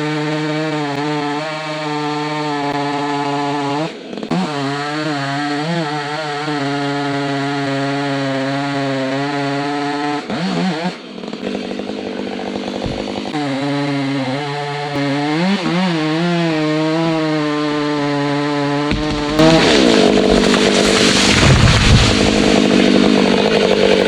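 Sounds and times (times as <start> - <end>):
chainsaw cutting wood: 0.0 - 24.0
chainsaw idling: 0.0 - 24.0.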